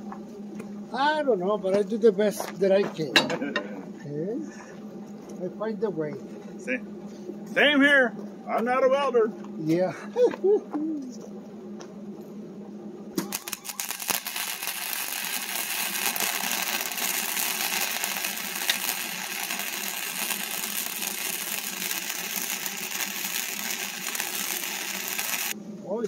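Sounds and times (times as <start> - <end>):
arc welding sizzling crackle: 0.0 - 12.3, 13.1 - 26.0.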